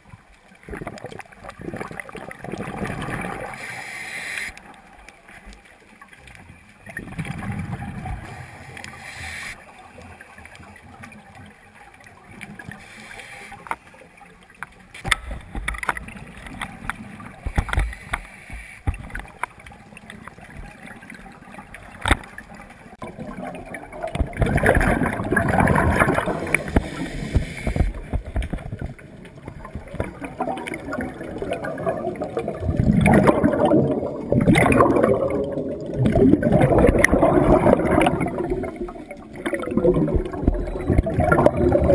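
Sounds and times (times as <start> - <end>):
underwater exhaled bubbles: 0.0 - 3.9, 4.5 - 14.6, 15.2 - 41.9.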